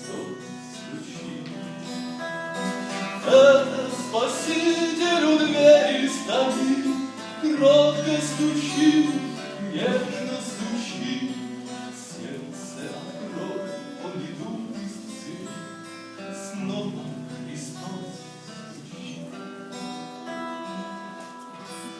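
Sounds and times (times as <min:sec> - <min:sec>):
strummed acoustic guitar: 0:00.0 - 0:21.9.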